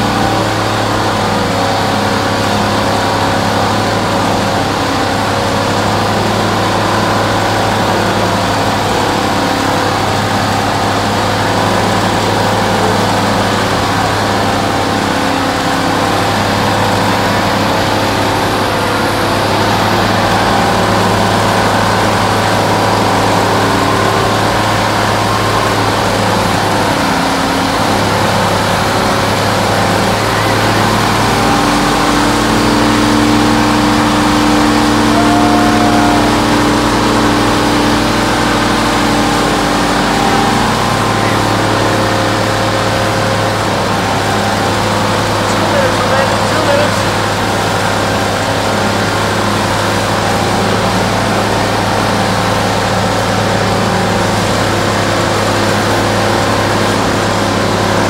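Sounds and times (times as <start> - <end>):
car engine at high revs: 0.0 - 58.0
tires spinning: 0.0 - 58.0.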